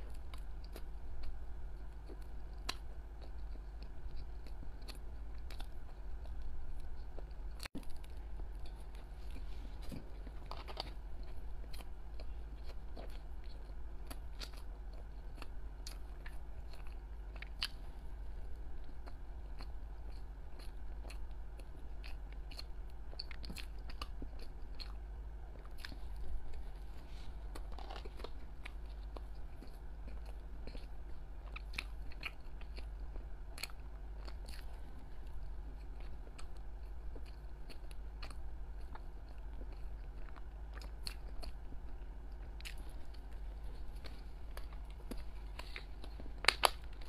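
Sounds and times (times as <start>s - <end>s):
biting and chewing bread: 0.0s - 47.0s
low steady hum: 0.0s - 47.0s.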